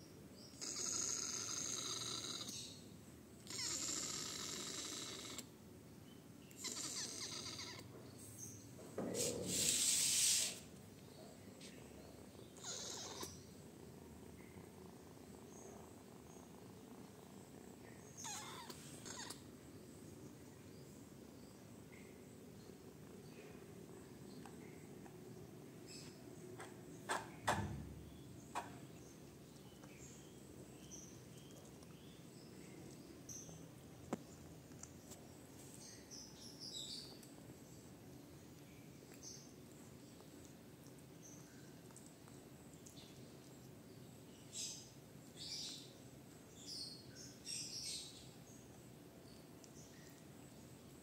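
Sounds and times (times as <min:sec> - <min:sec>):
faint background hiss: 0:00.0 - 0:51.0.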